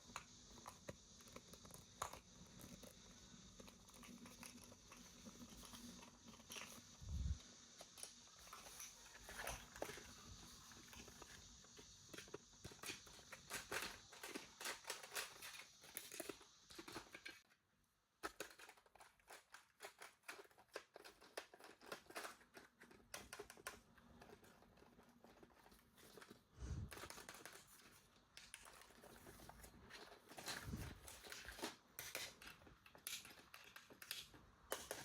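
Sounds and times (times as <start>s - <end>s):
plastic and cardboard crinkling: 0.0s - 35.0s.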